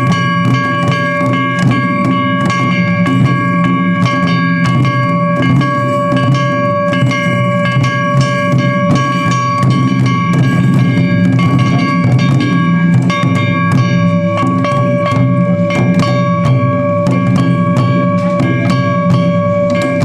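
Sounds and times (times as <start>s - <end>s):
held high-pitched note: 0.0s - 20.0s
taiko drums: 0.0s - 20.0s.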